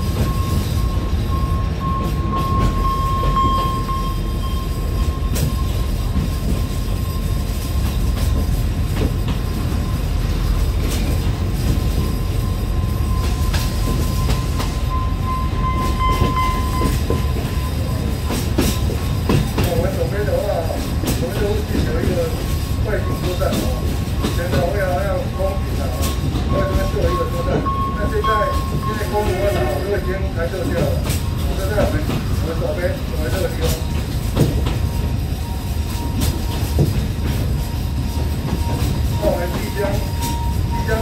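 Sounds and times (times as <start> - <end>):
train rumble: 0.0 - 41.0
wheels clicking on track: 0.0 - 41.0.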